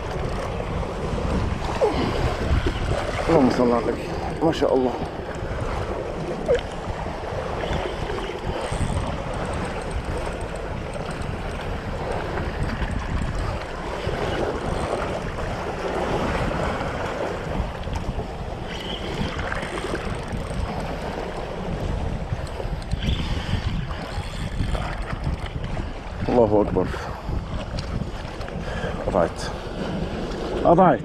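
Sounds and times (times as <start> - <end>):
sea waves washing against rocks: 0.0 - 31.0
wind buffeting microphone: 0.0 - 31.0.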